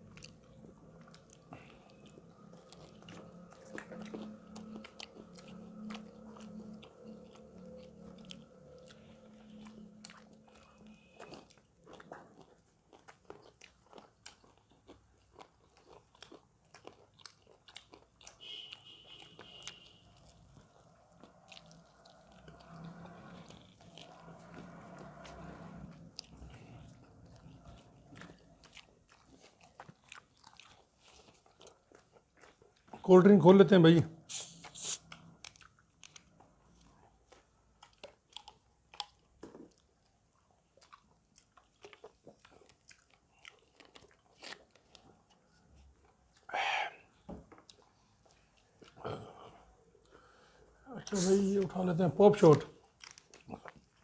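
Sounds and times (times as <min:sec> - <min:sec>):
crunching and chewing food: 0:00.0 - 0:54.0
clicks of people eating: 0:00.1 - 0:33.1, 0:34.4 - 0:40.1, 0:47.2 - 0:54.0.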